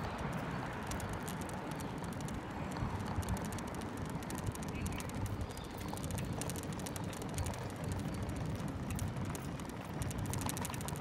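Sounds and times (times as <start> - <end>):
bicycle freewheel ticking: 0.0 - 11.0
tyres rumbling on bricks: 0.0 - 11.0
wind: 0.0 - 11.0.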